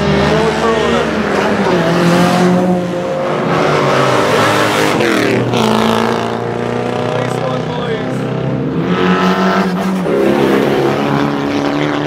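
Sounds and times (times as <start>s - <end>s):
car engines revving hard: 0.0s - 12.0s.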